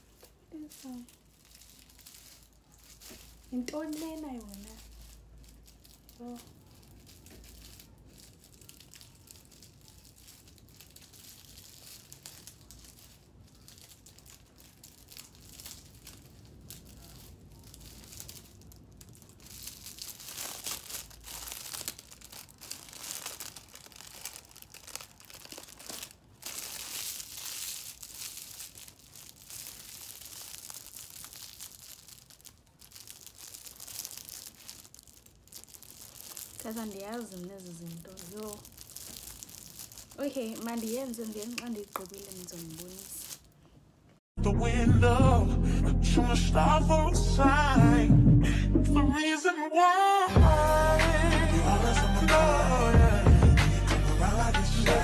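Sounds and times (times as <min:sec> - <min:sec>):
materials crinkling and rustling: 0:00.0 - 0:44.2.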